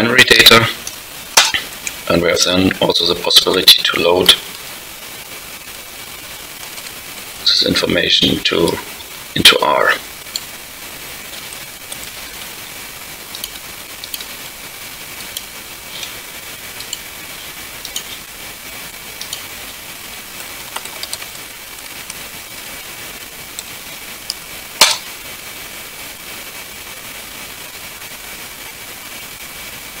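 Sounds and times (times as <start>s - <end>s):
faint high whine: 0.0s - 25.6s
microphone hiss: 0.0s - 30.0s.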